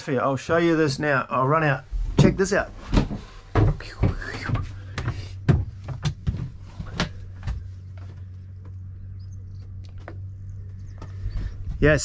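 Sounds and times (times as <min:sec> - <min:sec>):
steady low hum: 0:00.0 - 0:12.0
quick footsteps: 0:01.9 - 0:12.0.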